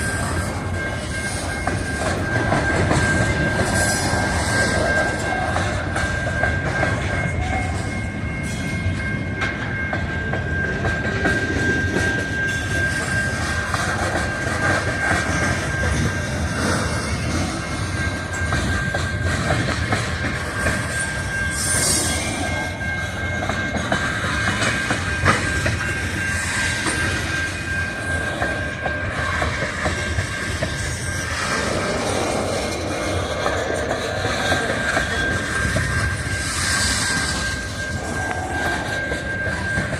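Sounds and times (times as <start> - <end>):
wheels clicking over rail joints: 0.0 - 39.9.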